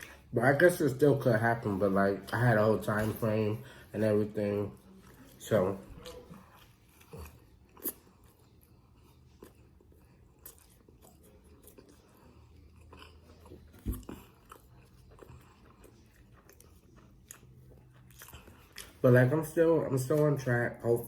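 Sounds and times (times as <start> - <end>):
person chewing pizza: 0.0 - 21.0.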